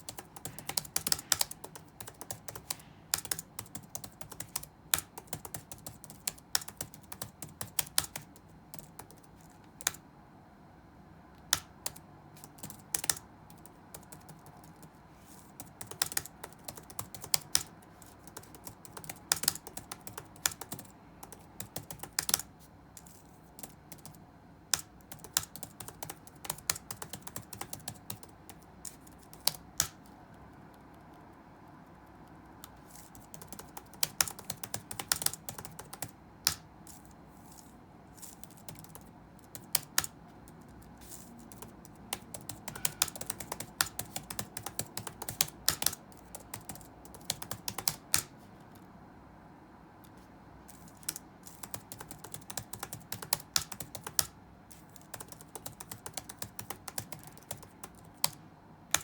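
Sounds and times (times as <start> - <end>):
typing on computer keyboard: 0.0 - 10.0, 11.4 - 37.6, 38.2 - 48.9, 50.0 - 59.0.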